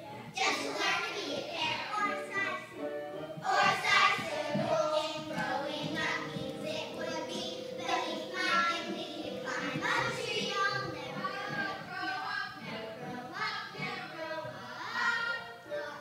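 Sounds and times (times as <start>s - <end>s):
children singing: 0.0s - 16.0s.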